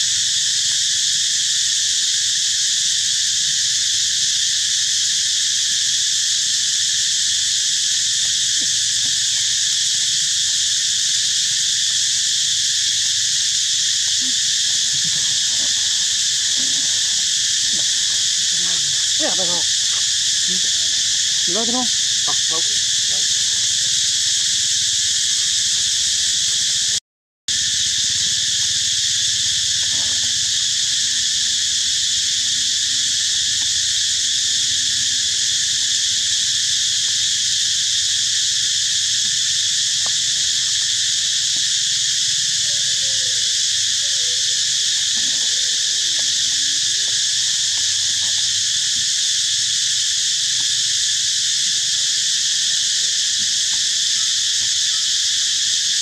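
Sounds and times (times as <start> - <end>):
insects shrilling: 3.2 - 56.0.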